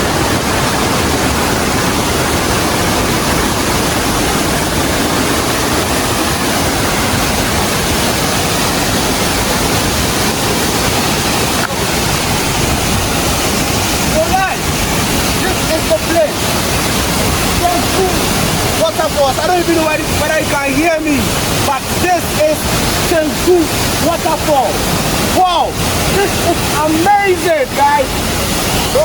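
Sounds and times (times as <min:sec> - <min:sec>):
waterfall pouring onto rocks: 0:00.0 - 0:29.0.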